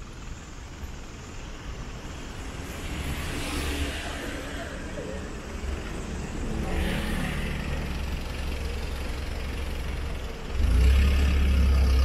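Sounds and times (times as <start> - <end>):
passing vehicle hiss: 0.0 - 12.0
road traffic rumble: 0.0 - 12.0.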